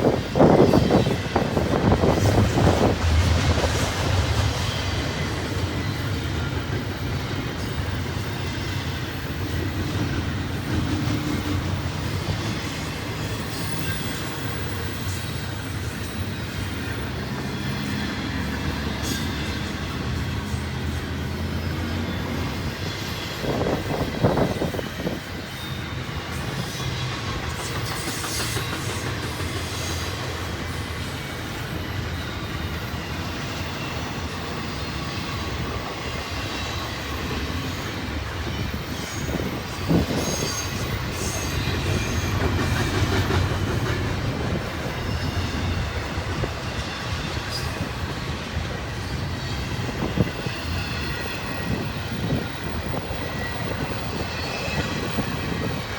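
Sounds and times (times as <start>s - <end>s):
loud train knocks: 0.0s - 14.9s, 16.9s - 55.9s
train wheels clattering over rails: 0.0s - 55.9s.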